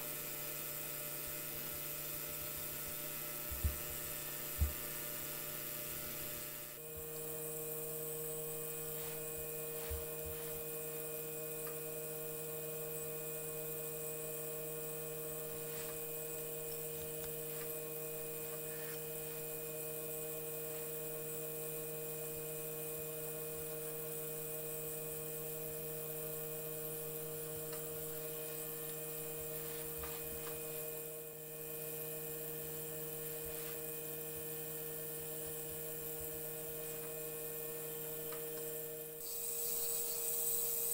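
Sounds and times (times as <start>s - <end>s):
steady electrical hum: 0.0s - 40.9s.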